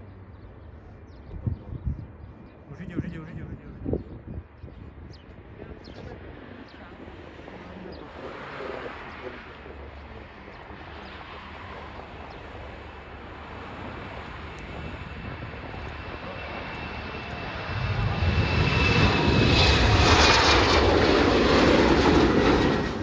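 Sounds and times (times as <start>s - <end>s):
jet engines at takeoff power: 0.0s - 23.0s.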